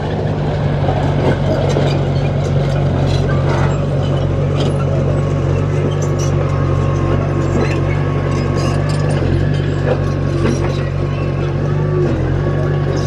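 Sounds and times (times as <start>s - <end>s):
heavy diesel engine running: 0.0s - 13.0s
metallic clanks and rattles: 1.0s - 13.0s.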